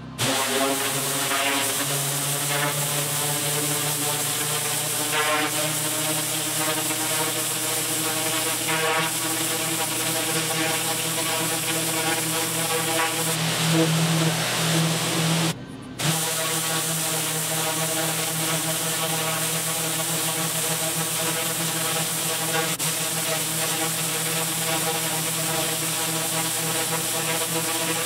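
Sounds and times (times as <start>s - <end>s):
high-pressure water jet hissing: 0.0s - 28.0s
pressure washer machine hum: 0.0s - 28.0s.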